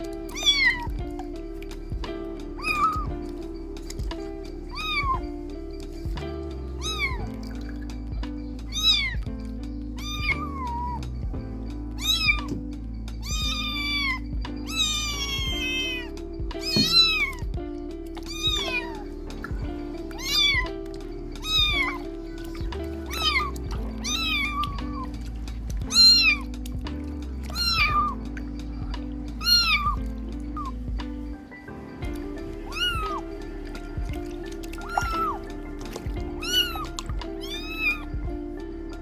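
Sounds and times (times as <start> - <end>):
kittens meowing: 0.0 - 1.3, 2.6 - 5.4, 6.0 - 11.3, 11.9 - 31.0, 32.1 - 38.4
background music: 0.0 - 39.0.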